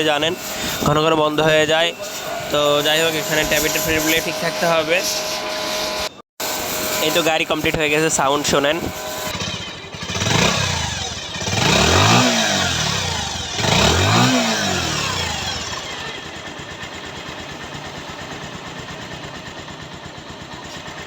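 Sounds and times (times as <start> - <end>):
motorcycle engine revving and idling: 0.0 - 4.6, 7.8 - 21.0.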